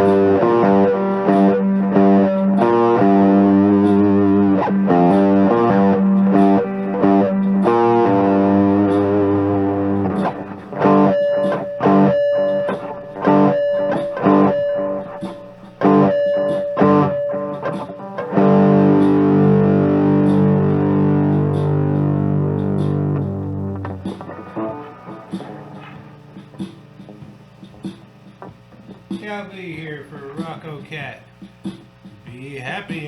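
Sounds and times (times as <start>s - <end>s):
overdriven electric guitar chords: 0.0s - 29.2s.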